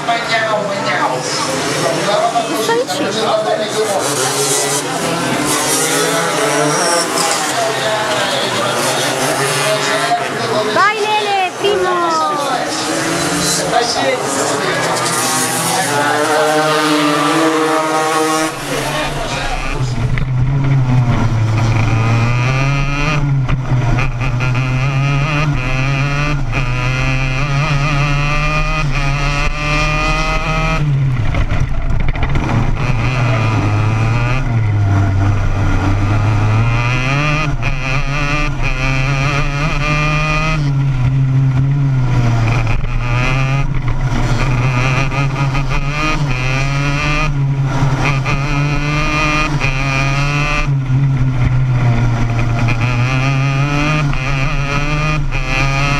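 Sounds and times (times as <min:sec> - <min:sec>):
kart engine at race pace: 0:00.0 - 0:55.9.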